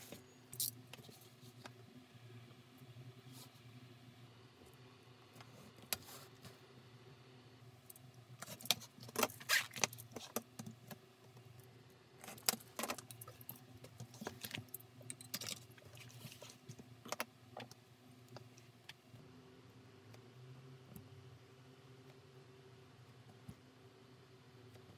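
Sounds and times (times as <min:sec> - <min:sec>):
low steady hum: 0:00.0 - 0:24.9.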